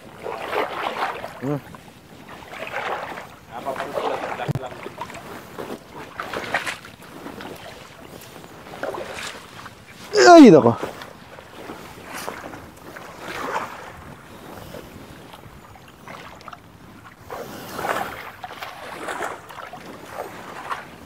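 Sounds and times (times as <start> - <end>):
water sloshing from wading: 0.0 - 21.0.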